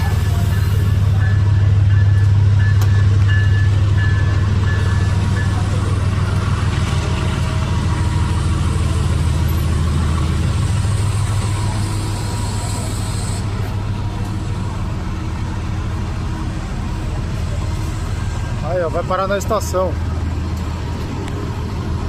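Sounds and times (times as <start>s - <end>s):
locomotive engine drone: 0.0s - 22.0s.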